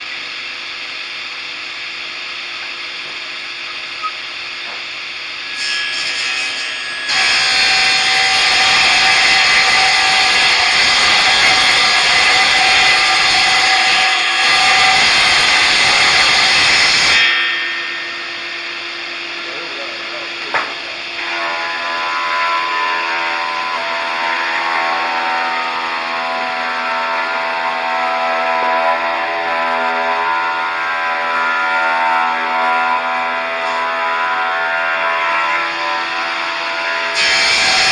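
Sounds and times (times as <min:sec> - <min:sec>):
power saw cutting timber: 0:00.0 - 0:37.9.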